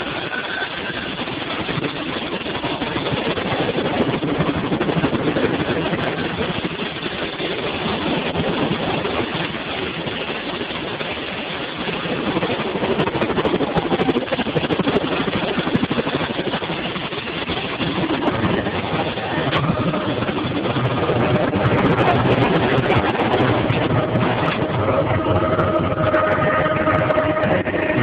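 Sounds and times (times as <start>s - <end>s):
helicopter engine and rotor noise: 0.0s - 28.0s.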